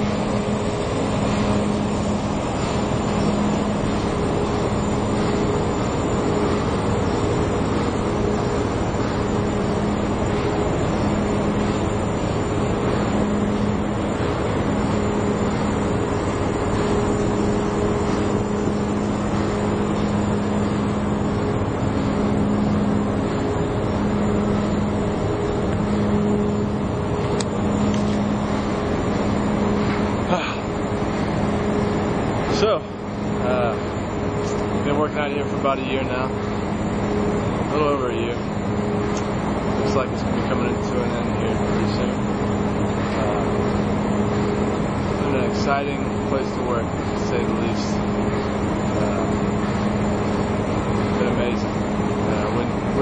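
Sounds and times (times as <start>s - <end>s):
drilling rig machinery rumble: 0.0s - 53.0s
machinery hum: 0.0s - 53.0s.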